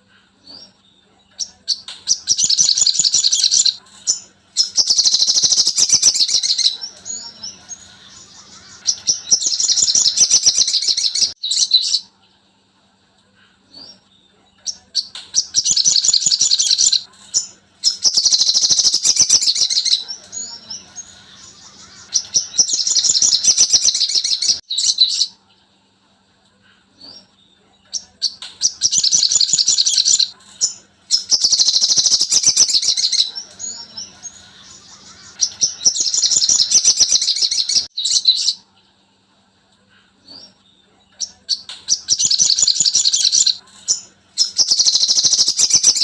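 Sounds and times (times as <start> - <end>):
bird chattering trills: 0.4 - 12.1, 14.6 - 25.3, 27.9 - 38.6, 41.2 - 46.0.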